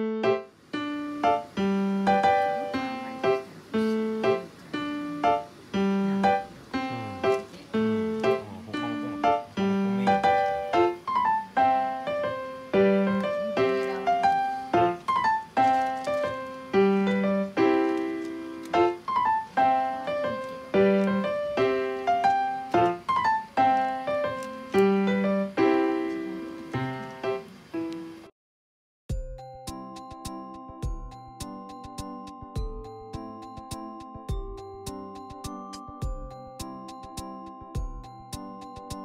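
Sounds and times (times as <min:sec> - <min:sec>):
piano music: 0:00.0 - 0:28.3, 0:29.1 - 0:39.0.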